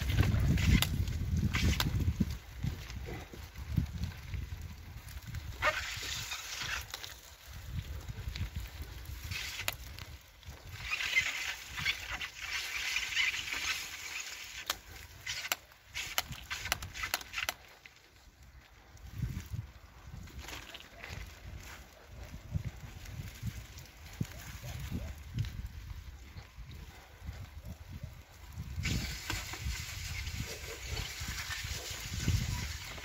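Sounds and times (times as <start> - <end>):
bike knocking and rattling: 0.0 - 18.2, 19.1 - 26.1, 28.6 - 33.0
bicycle tyres through wet slush: 0.0 - 33.0.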